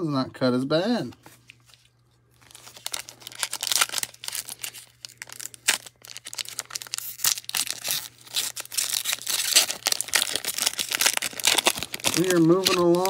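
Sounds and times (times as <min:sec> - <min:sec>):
foil wrapper tearing: 0:02.4 - 0:13.0.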